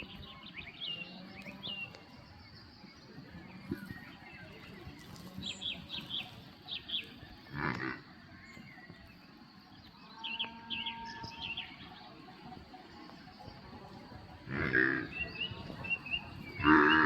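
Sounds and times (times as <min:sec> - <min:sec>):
birds chirping: 0:00.0 - 0:17.0
outdoor ambience hiss: 0:00.0 - 0:17.0.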